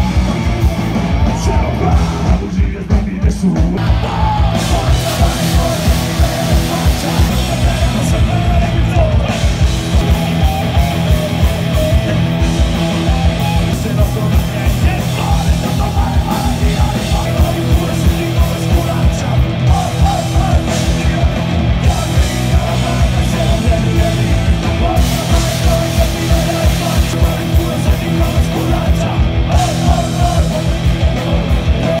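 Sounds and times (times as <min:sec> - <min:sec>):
punk rock band playing live: 0:00.0 - 0:32.0.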